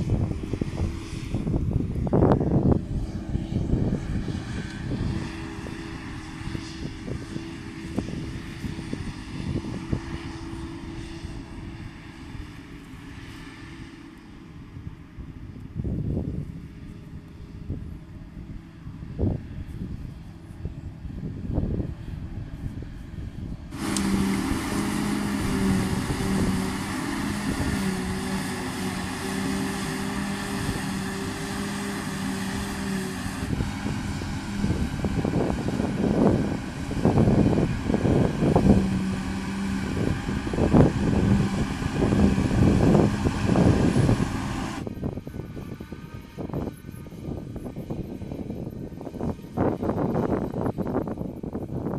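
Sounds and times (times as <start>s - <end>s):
harvester machine hum: 0.0s - 51.6s
wind buffeting microphone: 0.0s - 51.9s.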